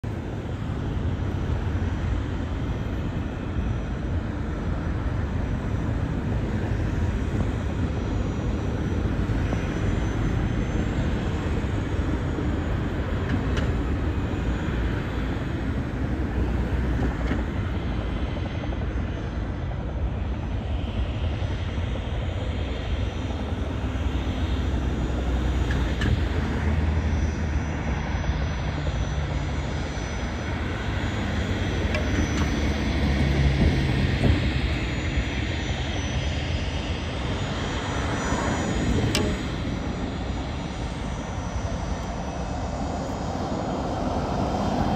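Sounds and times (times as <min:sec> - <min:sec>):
jet engines taxiing: 0:00.0 - 0:44.9.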